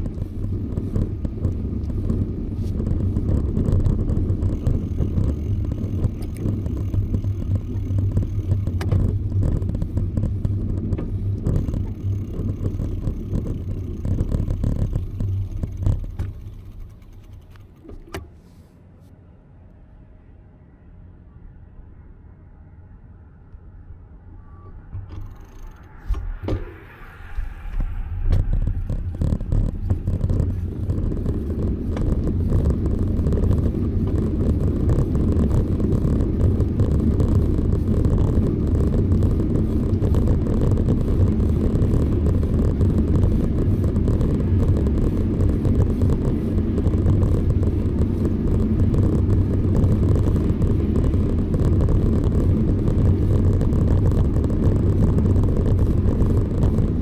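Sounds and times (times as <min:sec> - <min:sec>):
wind buffeting: 0:00.0 - 0:17.8, 0:21.8 - 0:57.0
knocks and clicks: 0:00.0 - 0:18.3, 0:27.4 - 0:57.0
bicycle tyre noise: 0:00.0 - 0:18.7, 0:25.0 - 0:57.0.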